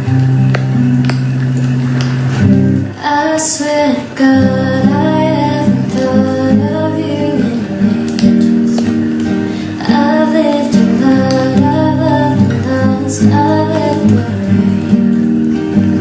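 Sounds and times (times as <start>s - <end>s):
acoustic guitar playing: 0.0s - 16.0s
woman singing: 2.8s - 16.0s.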